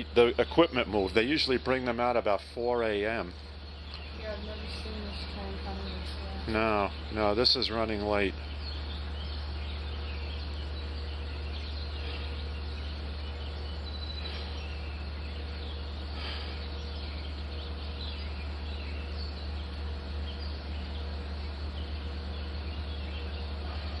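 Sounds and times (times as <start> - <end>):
birds chirping: 0.0 - 24.0
insects chirping: 0.0 - 24.0
steady low hum: 0.0 - 24.0.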